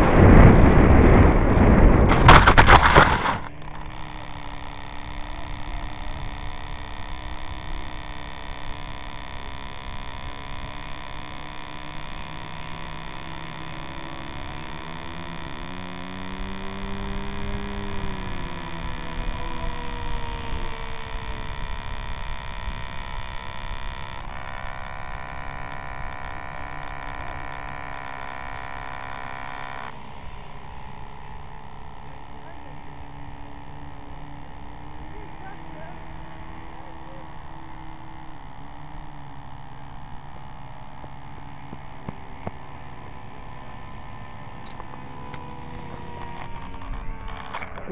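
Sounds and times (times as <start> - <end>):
dense buzz: 0.0 - 47.9
pitched drone rising and falling: 0.0 - 47.9
steady electrical hum and buzz: 0.0 - 47.9.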